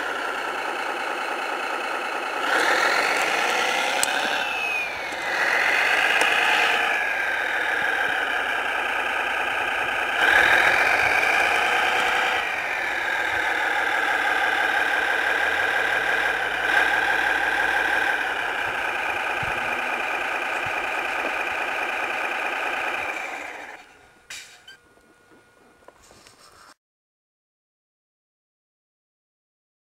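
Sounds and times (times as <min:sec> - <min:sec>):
simulated diesel engine from speaker: 0:00.0 - 0:26.8.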